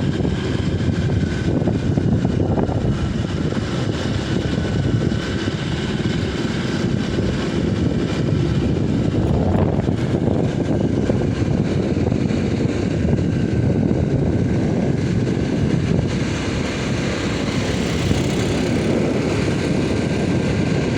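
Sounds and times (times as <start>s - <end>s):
motorcycle engine running: 0.0s - 20.9s
wind rush on microphone: 0.0s - 20.9s.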